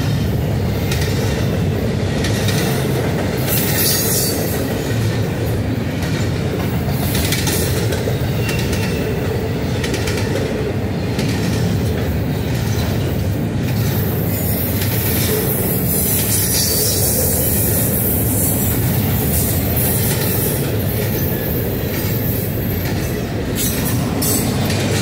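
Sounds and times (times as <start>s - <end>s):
clickety-clack of rail joints: 0.0s - 25.0s
train wheels rumbling on rails: 0.0s - 25.0s.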